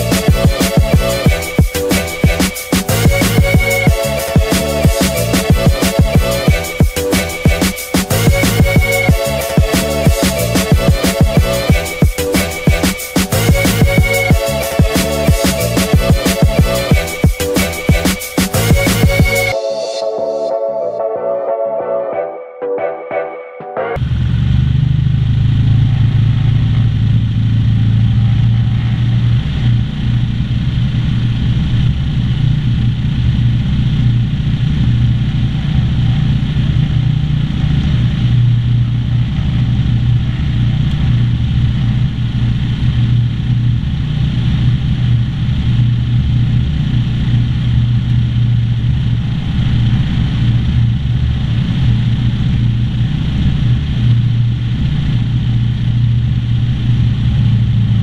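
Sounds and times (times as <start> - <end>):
airplane engine and propeller: 0.0 - 19.6, 24.0 - 58.0.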